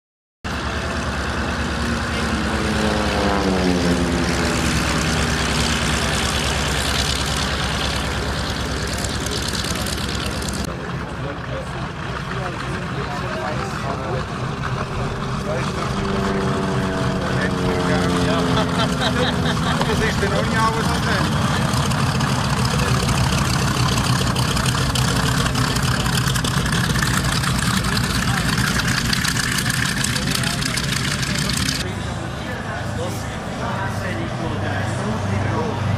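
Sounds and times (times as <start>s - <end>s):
propeller aircraft engine taxiing: 0.5s - 35.9s.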